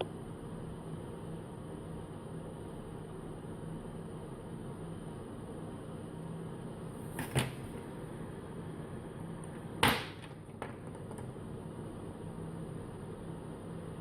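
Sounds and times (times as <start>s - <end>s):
steady hum and hiss: 0.0s - 14.0s.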